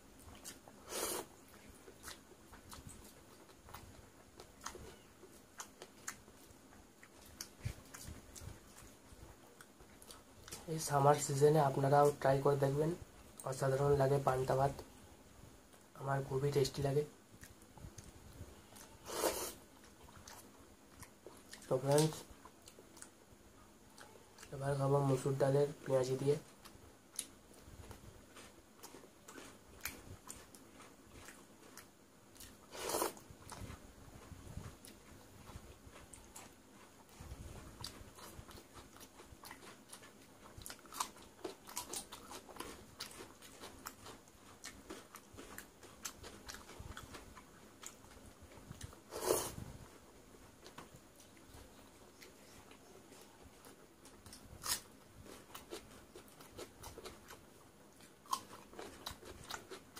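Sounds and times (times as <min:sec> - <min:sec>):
chewing and crunching: 0:00.2 - 0:14.7, 0:16.8 - 0:59.9.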